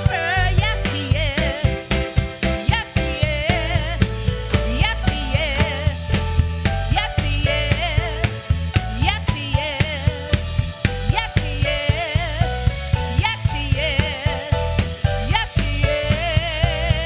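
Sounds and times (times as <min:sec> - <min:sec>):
drum kit beat: 0:00.0 - 0:17.0
person singing with vibrato: 0:00.0 - 0:17.0.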